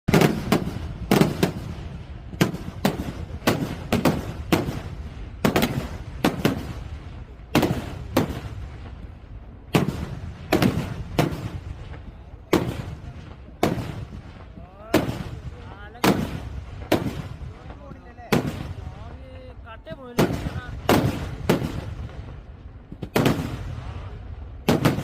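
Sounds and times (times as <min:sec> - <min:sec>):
fireworks banging: 0:00.0 - 0:25.0.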